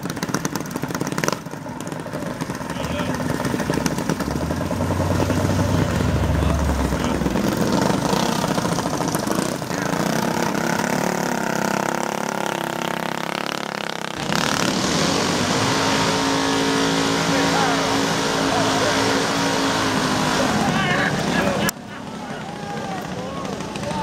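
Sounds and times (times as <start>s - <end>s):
minibike engine passing: 0.0s - 24.0s.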